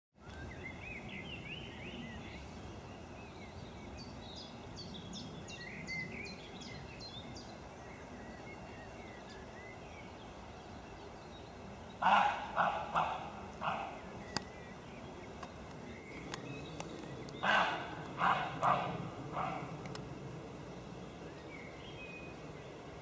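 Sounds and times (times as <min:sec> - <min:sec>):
outdoor background noise: 0:00.2 - 0:23.0
small birds singing: 0:00.2 - 0:23.0.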